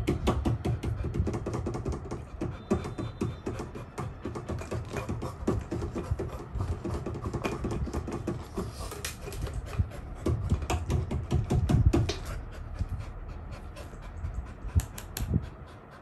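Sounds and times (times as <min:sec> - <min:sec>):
dog chewing a rubber toy: 0:00.1 - 0:16.0.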